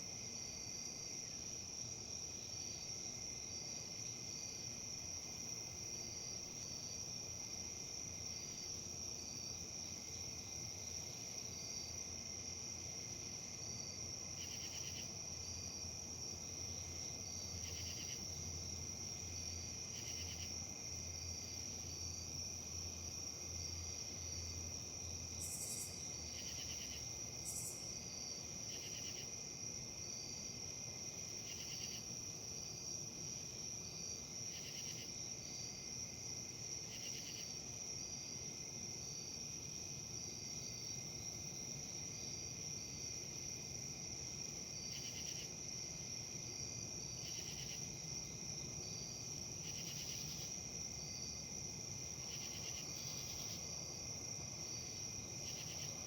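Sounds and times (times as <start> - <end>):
crickets chirping: 0.0 - 56.0
faint low background noise: 0.0 - 56.0.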